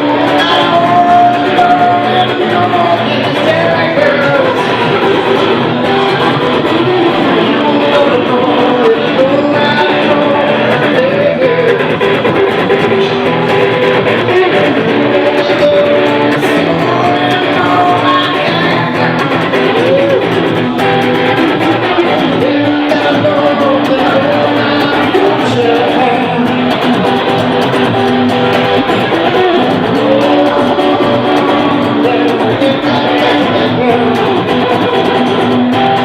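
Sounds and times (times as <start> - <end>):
bass guitar: 0.0 - 36.0
electric guitar lead with bent notes: 0.0 - 36.0
strummed guitar: 0.0 - 36.0.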